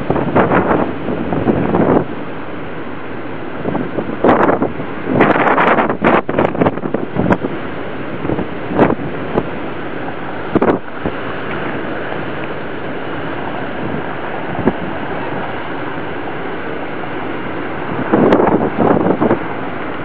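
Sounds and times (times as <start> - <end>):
surf breaking: 0.0 - 20.0
wind on microphone: 0.0 - 20.0.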